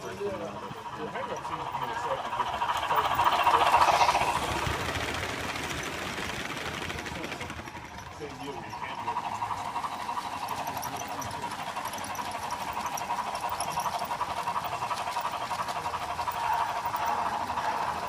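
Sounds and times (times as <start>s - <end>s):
steam locomotive sounds from speaker: 0.0s - 18.0s.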